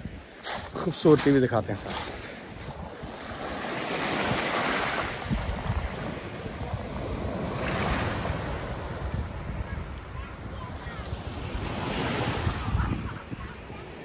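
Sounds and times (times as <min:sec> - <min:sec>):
waves washing on pebble beach: 0:00.0 - 0:13.0
wind rumble on microphone: 0:02.1 - 0:14.0.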